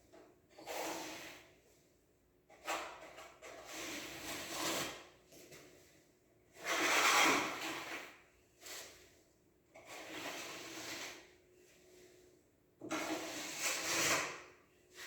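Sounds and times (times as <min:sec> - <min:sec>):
putty spreading strokes on wall: 0:00.5 - 0:01.8, 0:02.5 - 0:12.2, 0:12.8 - 0:15.0.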